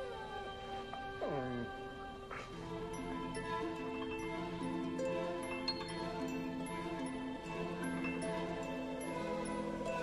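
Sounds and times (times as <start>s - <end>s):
slow sustained film score: 0.0s - 10.0s.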